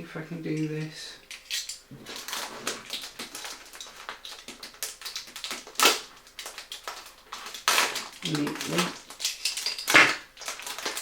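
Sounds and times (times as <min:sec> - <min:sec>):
packaging crinkling: 0:01.2 - 0:11.0.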